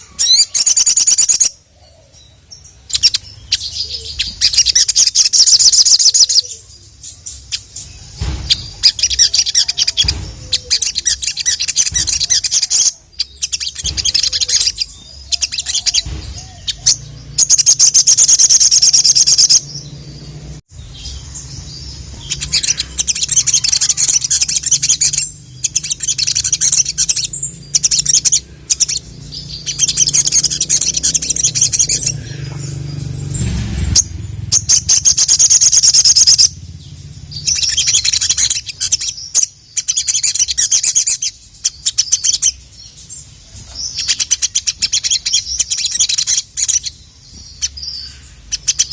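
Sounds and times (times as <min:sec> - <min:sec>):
bird singing high chattering trills: 0:00.0 - 0:48.9.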